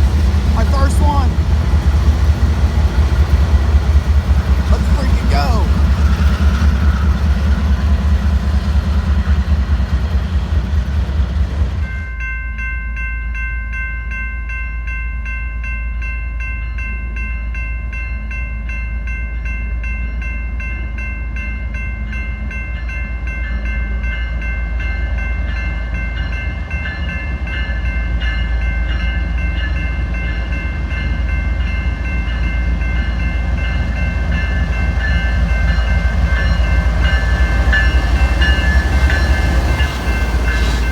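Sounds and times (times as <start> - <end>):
freight train cars rumbling: 0.0 - 13.4, 15.2 - 40.9.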